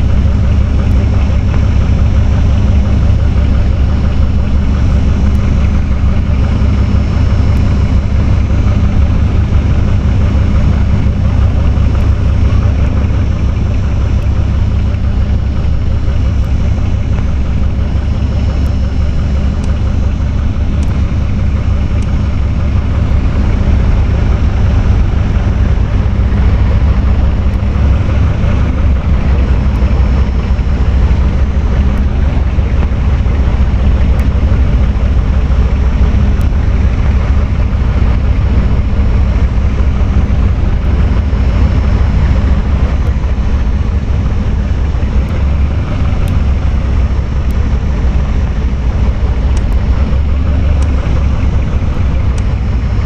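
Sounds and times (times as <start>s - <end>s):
electric fan running: 0.0s - 53.0s.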